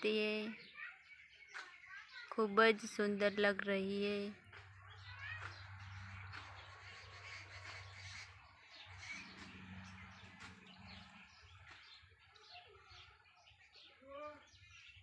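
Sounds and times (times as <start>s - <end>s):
faint birds calling: 0.0s - 15.0s.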